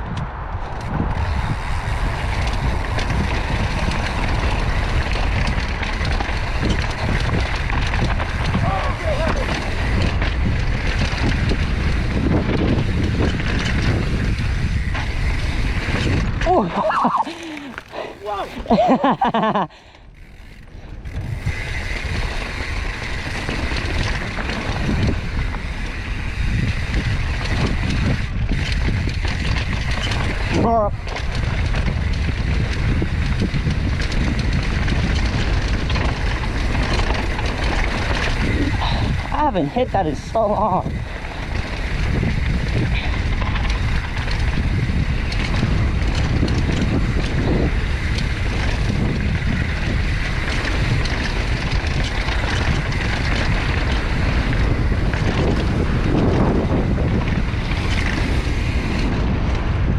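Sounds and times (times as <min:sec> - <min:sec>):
wind rushing over microphone: 0:00.0 - 0:59.9
tyre noise on dirt: 0:00.6 - 0:59.9
bike rattling knocks: 0:02.3 - 0:19.6, 0:26.5 - 0:39.5, 0:40.2 - 0:59.2.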